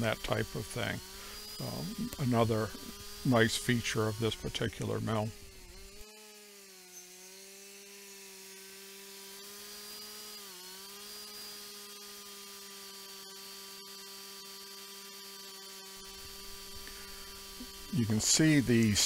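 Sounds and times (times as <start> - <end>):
band sawmill humming: 0.0 - 19.0.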